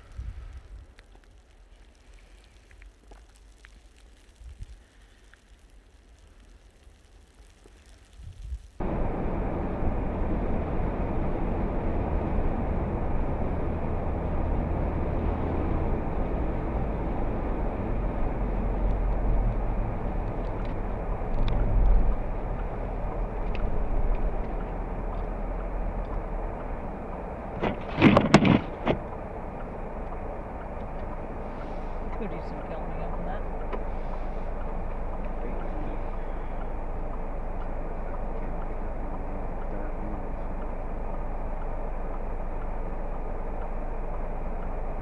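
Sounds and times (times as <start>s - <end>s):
car road and engine noise: 0.0s - 45.0s.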